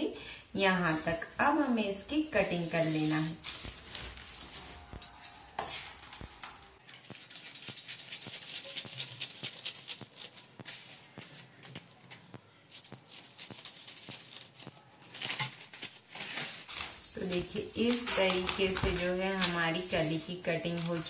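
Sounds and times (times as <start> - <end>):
paper rustling: 0.8 - 21.0
scissors snipping paper: 2.9 - 21.0.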